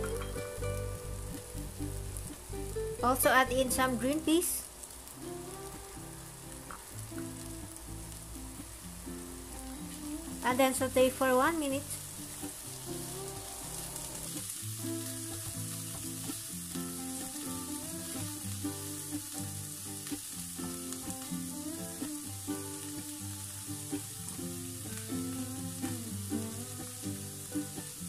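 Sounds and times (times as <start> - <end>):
background music: 0.0 - 4.5, 5.2 - 28.0
vegetables sizzling in hot oil: 0.0 - 28.0.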